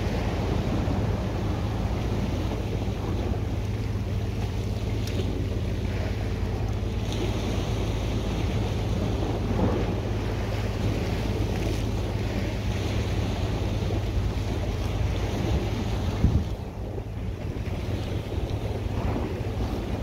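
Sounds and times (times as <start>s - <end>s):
sea surf washing against rocks: 0.0s - 20.0s
wind buffeting microphone: 0.0s - 20.0s.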